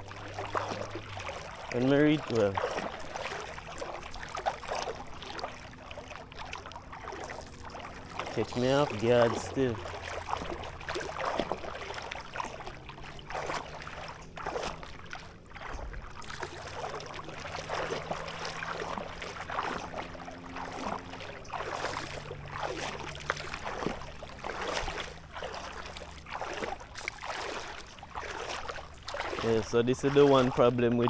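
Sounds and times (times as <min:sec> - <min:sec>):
water sloshing as person wades: 0:00.0 - 0:31.0.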